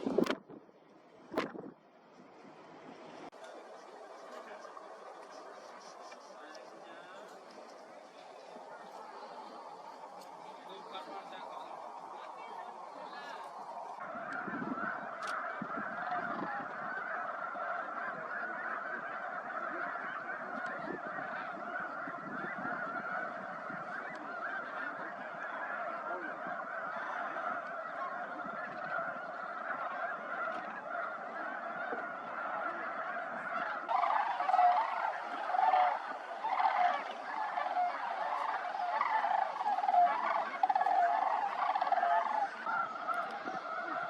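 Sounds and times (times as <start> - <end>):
flock of birds honking: 2.8 - 44.0.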